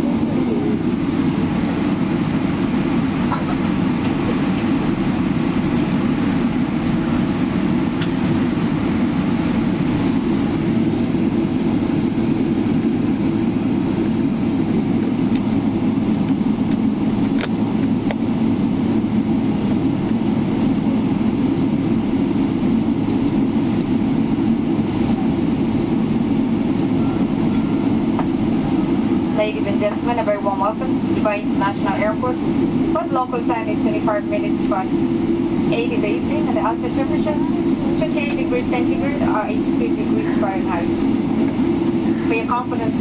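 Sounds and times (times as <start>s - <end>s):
aircraft cabin engine drone: 0.0s - 43.0s.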